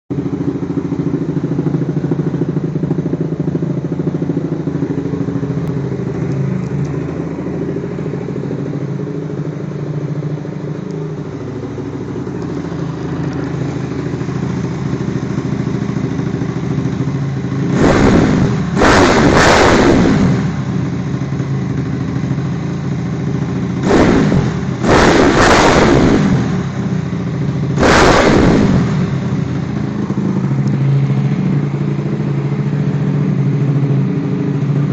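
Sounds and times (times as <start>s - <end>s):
dirt bike engine idling and revving: 0.1s - 34.9s.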